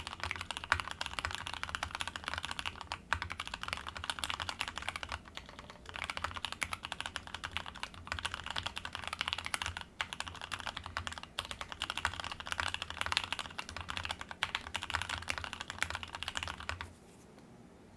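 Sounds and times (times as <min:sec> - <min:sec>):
fast typing on mechanical keyboard: 0:00.0 - 0:16.9.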